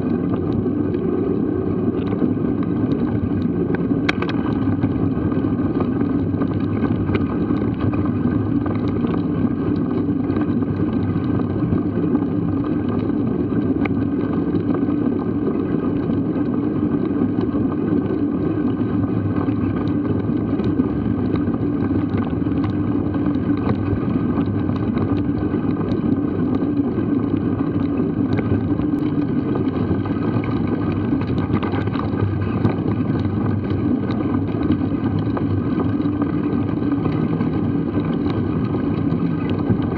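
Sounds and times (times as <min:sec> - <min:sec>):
bike tyres rumbling on dirt: 0:00.0 - 0:39.9
wind on microphone: 0:00.0 - 0:39.9.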